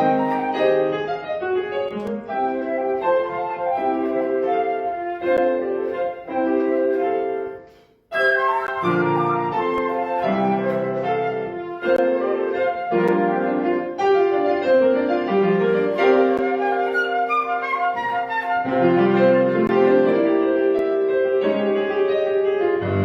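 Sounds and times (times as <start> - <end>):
flute: 0.0 - 1.3, 2.3 - 21.0
piano: 0.0 - 23.0.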